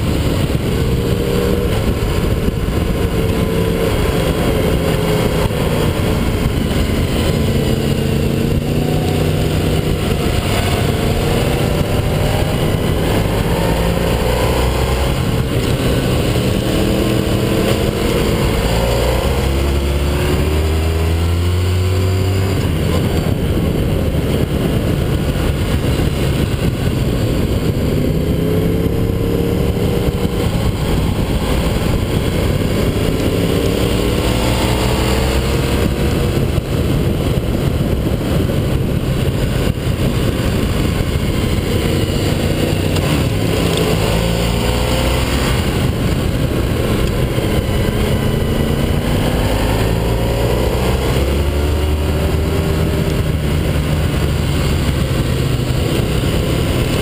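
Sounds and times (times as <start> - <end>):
motorcycle engine accelerating: 0.0 - 57.0
steady low drone: 0.0 - 57.0
wind rush on microphone: 0.0 - 57.0.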